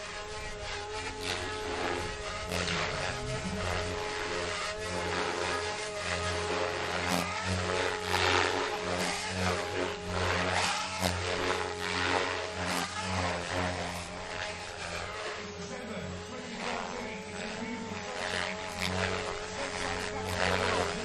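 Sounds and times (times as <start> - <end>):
rc helicopter motor and rotor whine: 0.0 - 21.0.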